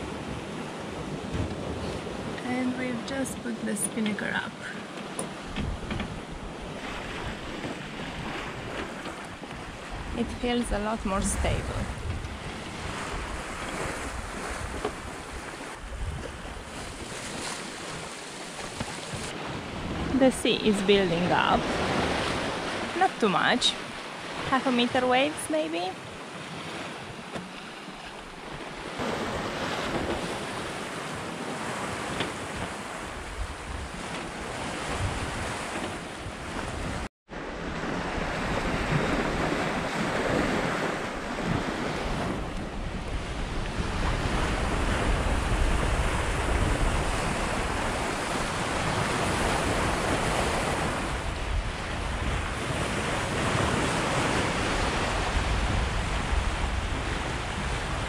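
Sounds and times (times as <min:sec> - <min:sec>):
water rushing along hull: 0:00.0 - 0:58.0
wind buffeting microphone: 0:05.1 - 0:24.5, 0:25.8 - 0:58.0.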